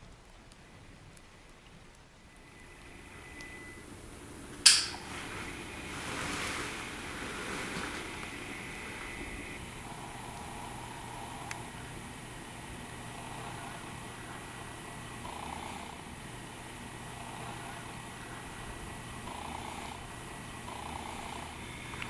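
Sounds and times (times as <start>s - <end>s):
constant hiss: 0.0s - 22.0s.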